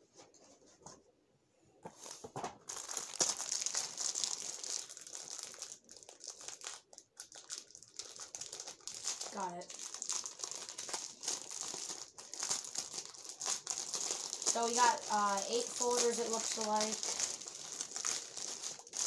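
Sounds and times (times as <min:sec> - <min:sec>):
plastic wrapping crinkling and tearing: 0:02.0 - 0:19.0.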